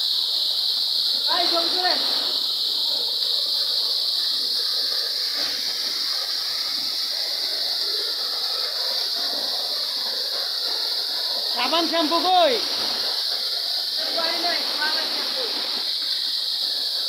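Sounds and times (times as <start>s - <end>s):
waterfall pouring onto rock: 0.0s - 17.0s.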